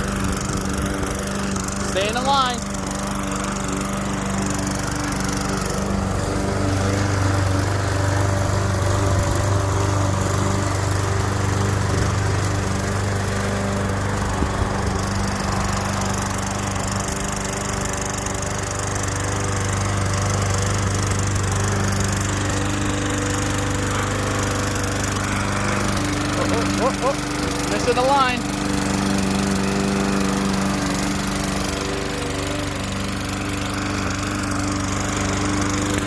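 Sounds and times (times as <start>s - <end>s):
lawn mower running: 0.0s - 36.0s.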